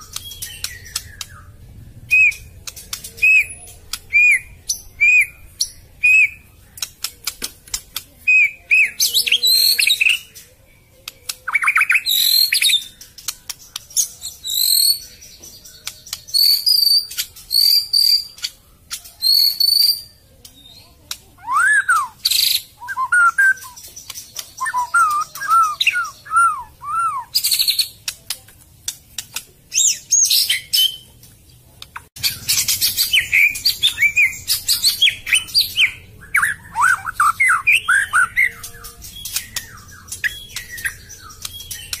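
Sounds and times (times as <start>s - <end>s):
sharp high bird notes and clicks: 0.0s - 1.5s, 2.1s - 42.0s
songbird whistling song: 0.0s - 7.4s, 8.0s - 28.0s, 29.7s - 31.2s, 32.2s - 42.0s.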